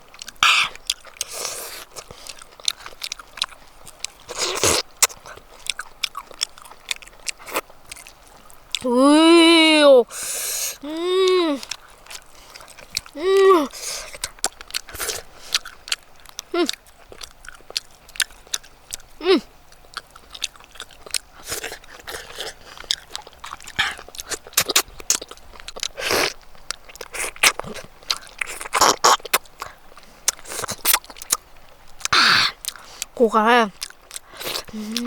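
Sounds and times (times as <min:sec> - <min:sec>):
person crunching and chewing: 0:00.0 - 0:08.9, 0:10.1 - 0:35.0.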